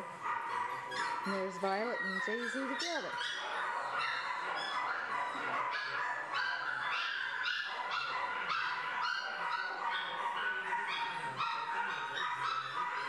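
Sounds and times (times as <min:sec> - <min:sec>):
dogs whining and yipping: 0:00.0 - 0:13.0.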